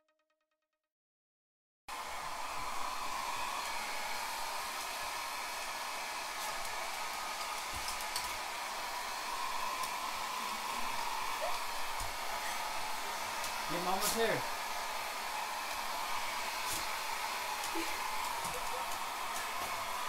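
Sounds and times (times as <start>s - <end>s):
hair dryer blowing air: 1.9s - 20.0s.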